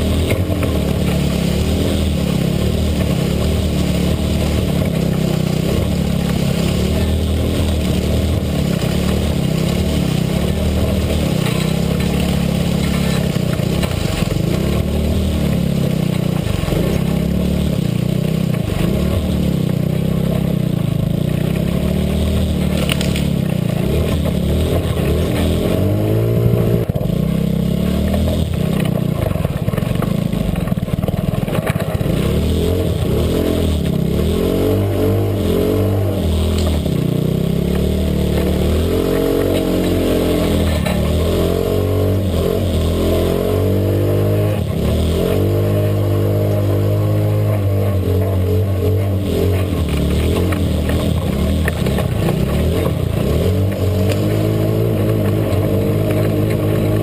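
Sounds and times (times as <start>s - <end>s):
lawn mower engine cutting weeds: 0.0s - 57.0s.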